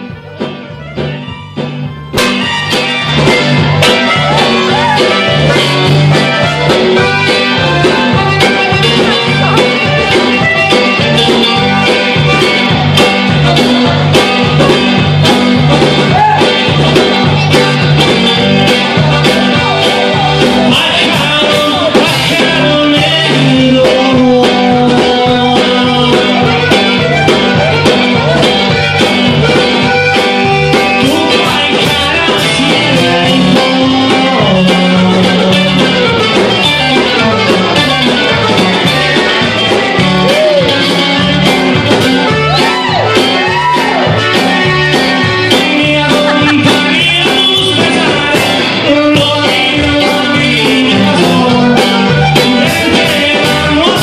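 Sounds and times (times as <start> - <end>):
accordion: 0.0 - 54.0
drum kit steady beat: 0.0 - 54.0
electric bass line: 0.0 - 54.0
guitar: 0.0 - 54.0.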